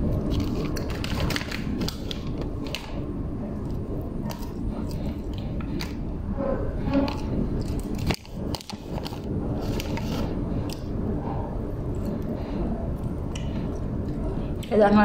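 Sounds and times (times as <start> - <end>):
person chewing: 0.0 - 14.7.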